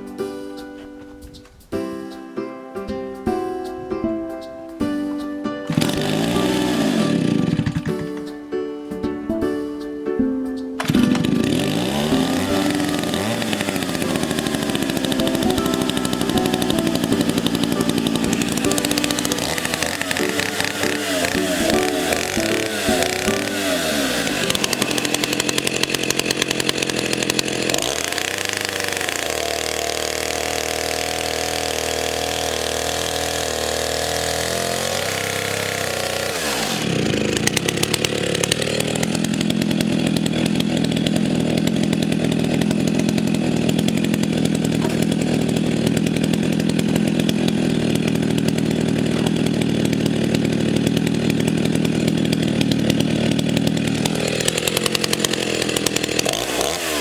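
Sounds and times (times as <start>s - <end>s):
chainsaw engine running: 5.7s - 8.3s, 10.8s - 57.0s.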